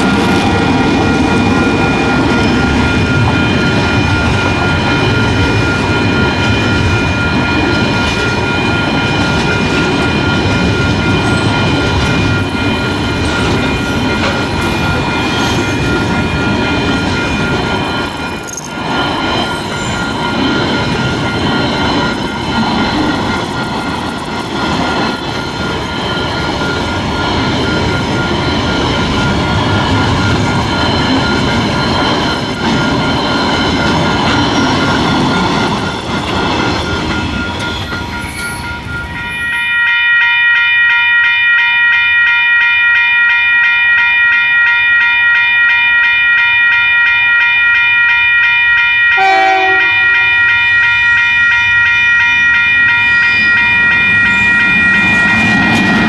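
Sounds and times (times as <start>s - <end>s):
train passing: 0.0s - 40.3s, 46.3s - 56.0s
crossing bell ringing: 0.0s - 56.0s.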